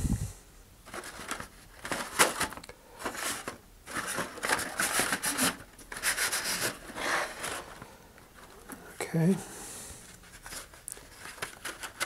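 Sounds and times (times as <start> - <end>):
plastic and cardstock rustling: 0.8 - 8.9, 10.1 - 12.0.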